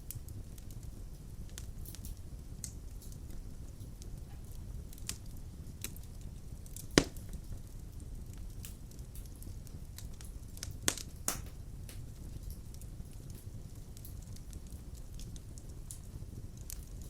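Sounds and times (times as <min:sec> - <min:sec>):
fire popping: 0:00.0 - 0:17.0
wood fire rumbling and crackling: 0:00.0 - 0:17.0.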